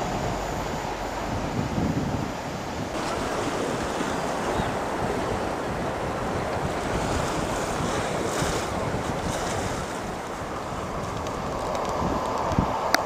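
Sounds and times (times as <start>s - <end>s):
sea surf on shore: 0.0s - 13.0s
wind buffeting microphone: 0.0s - 13.0s.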